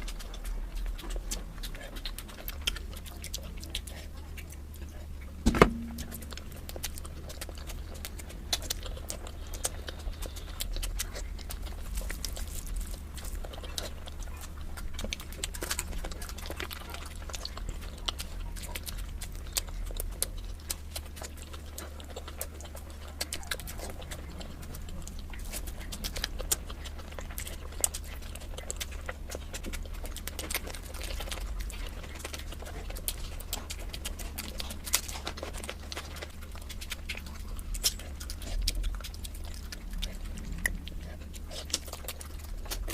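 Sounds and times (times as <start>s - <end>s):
close chewing with clicks: 0.0s - 42.9s
steady low hum: 0.0s - 42.9s.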